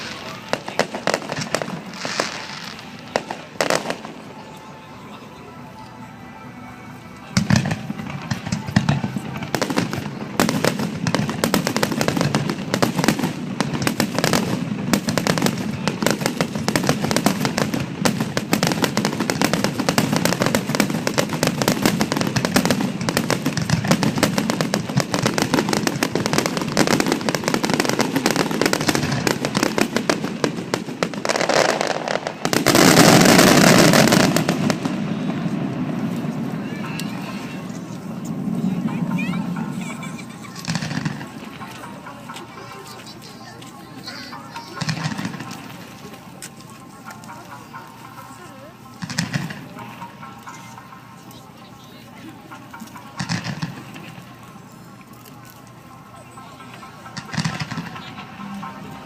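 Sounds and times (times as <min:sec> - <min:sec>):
fireworks bangs and crackling: 0:00.0 - 0:04.6, 0:07.3 - 0:59.0.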